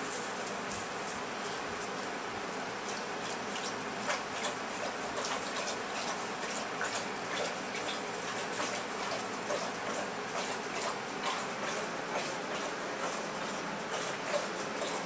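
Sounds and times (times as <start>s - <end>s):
puppy claws scratching: 2.8s - 15.0s.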